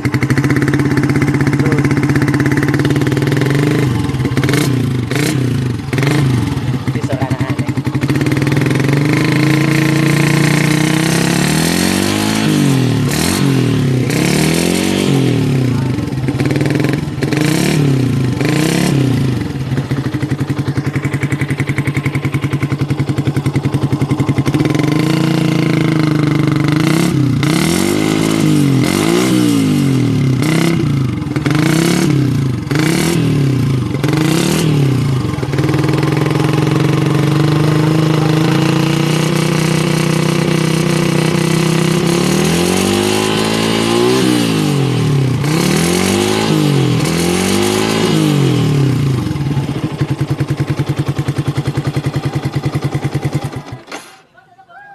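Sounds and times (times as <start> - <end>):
motorcycle engine idling and revving: 0.0 - 54.7.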